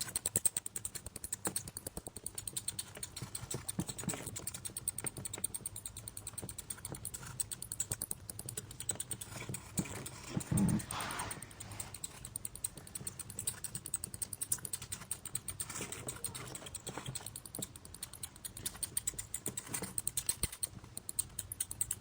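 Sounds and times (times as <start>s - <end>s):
mouse scurrying: 0.0s - 22.0s.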